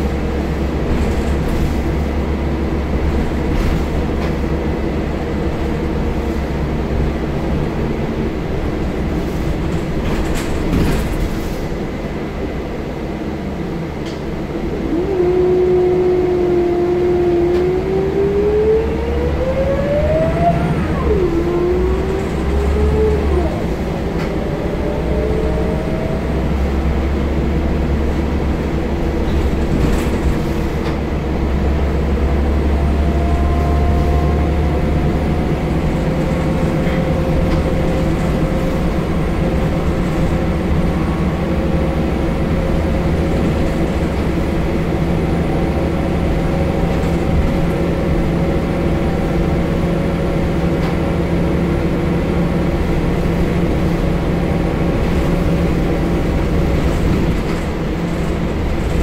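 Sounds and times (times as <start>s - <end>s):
bus diesel engine rumble: 0.0s - 59.0s.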